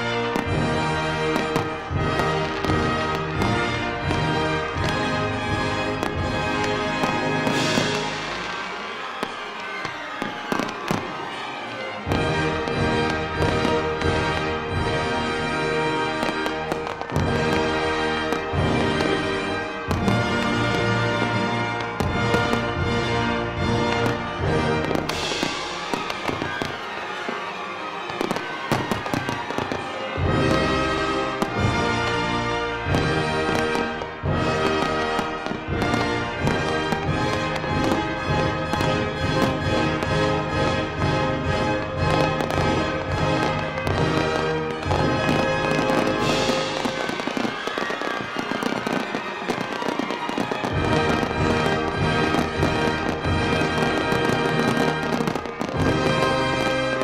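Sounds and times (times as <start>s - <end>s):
background music: 0.0s - 57.0s
fireworks popping and crackling: 0.0s - 57.0s.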